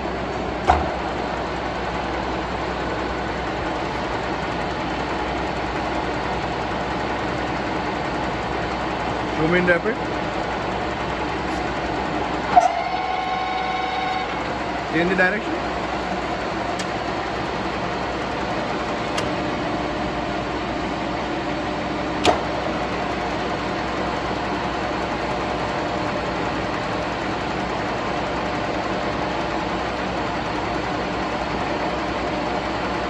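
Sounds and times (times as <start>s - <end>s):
milling machine hum and whine: 0.0s - 33.0s.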